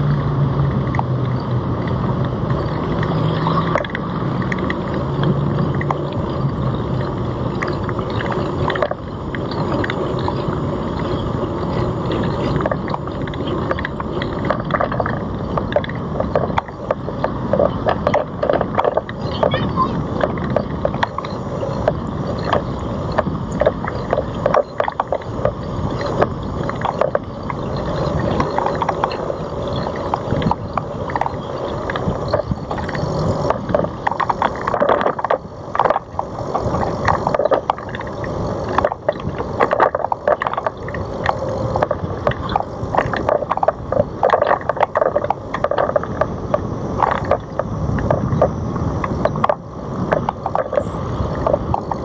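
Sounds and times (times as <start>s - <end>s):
bicycle rolling on pavement: 0.0s - 52.0s.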